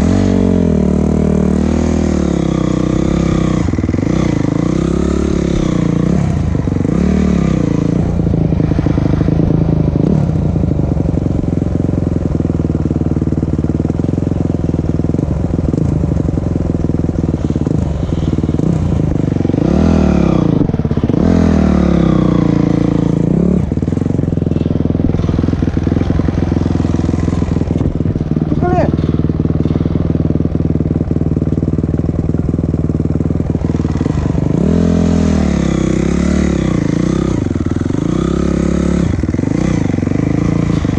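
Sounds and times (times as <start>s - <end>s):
vehicle engine revving: 0.0s - 11.5s, 13.2s - 40.9s.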